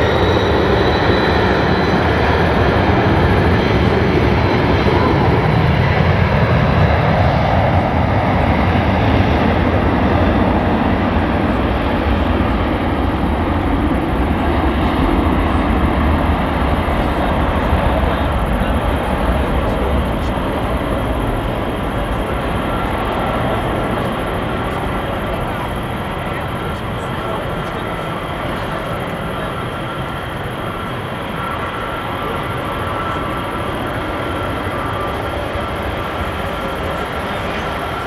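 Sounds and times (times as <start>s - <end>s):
jet engine roar on takeoff: 0.0s - 38.0s.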